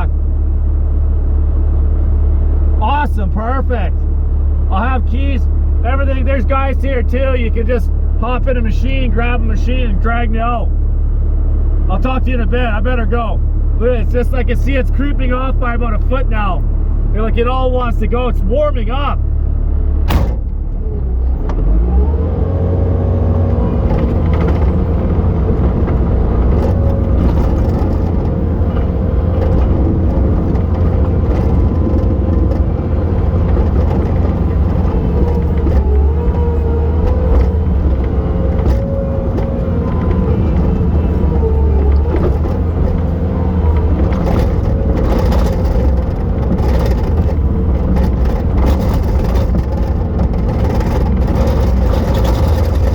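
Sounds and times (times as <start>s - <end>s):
diesel engine running hard: 0.0s - 52.9s.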